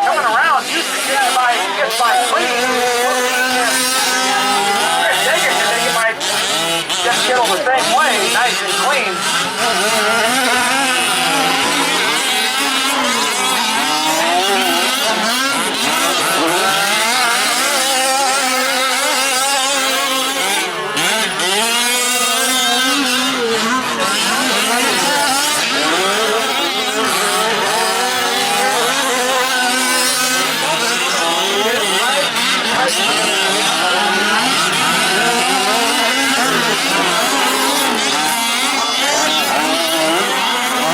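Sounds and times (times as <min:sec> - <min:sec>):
small two-stroke engines revving: 0:00.0 - 0:40.9.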